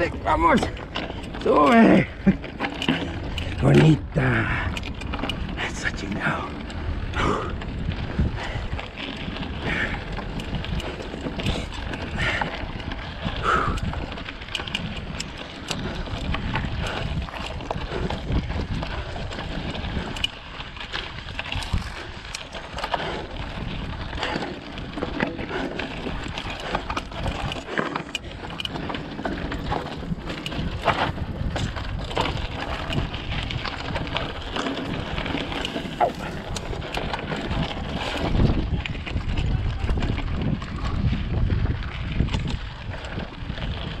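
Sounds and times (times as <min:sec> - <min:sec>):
bike rattling and knocking: 0:00.0 - 0:44.0
bike tyres rolling over dirt: 0:00.0 - 0:44.0
wind noise on microphone: 0:00.0 - 0:44.0.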